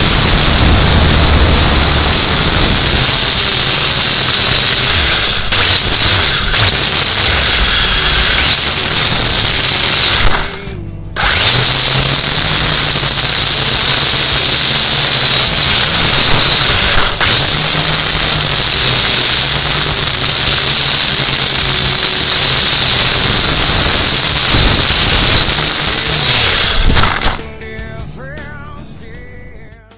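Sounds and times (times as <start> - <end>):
toy drone motors whining: 0.0 - 27.4.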